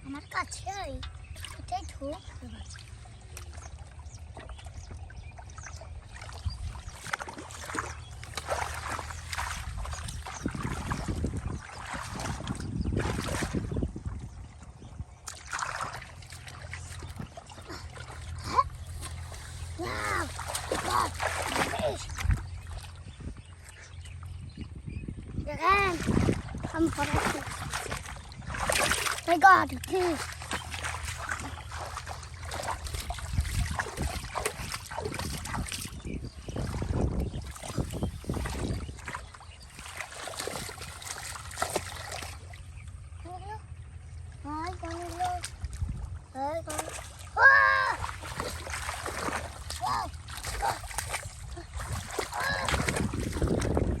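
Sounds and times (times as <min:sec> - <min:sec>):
muddy water sloshing and splashing: 0:00.0 - 0:54.0.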